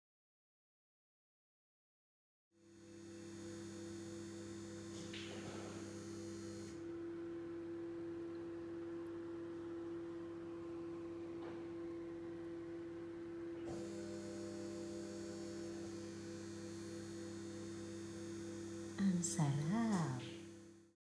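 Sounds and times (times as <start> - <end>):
low electrical hum: 2.6 - 21.0.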